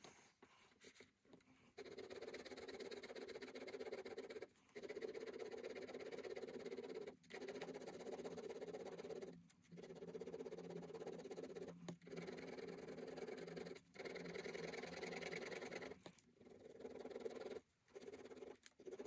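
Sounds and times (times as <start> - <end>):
ballpoint pen scratching on paper: 0.0 - 19.0.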